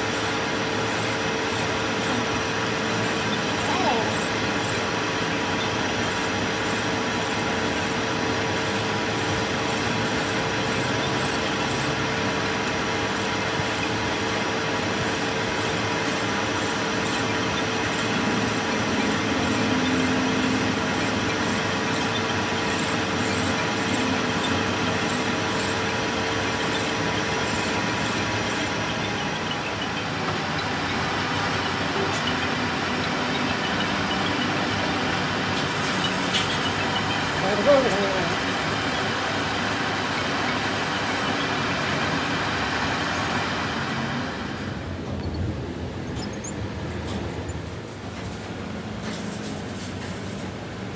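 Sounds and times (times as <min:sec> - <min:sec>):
harsh metalwork noise: 0:00.0 - 0:43.4
machine hum: 0:00.0 - 0:48.8.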